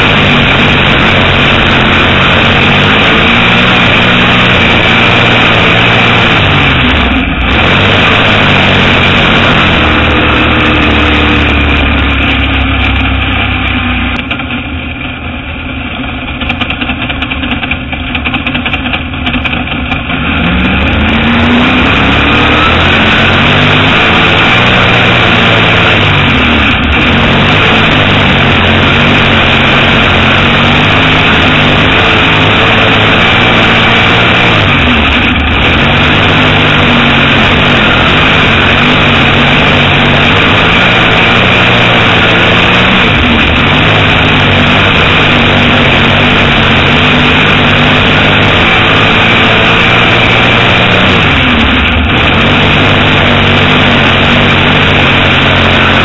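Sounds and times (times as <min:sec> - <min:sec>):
race car engine revving: 0:00.0 - 0:15.1, 0:15.8 - 0:56.0.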